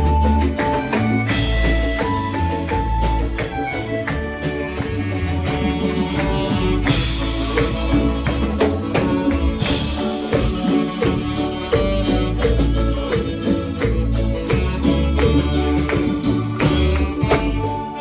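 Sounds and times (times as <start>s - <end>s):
guitar bass and drums music: 0.0s - 18.0s.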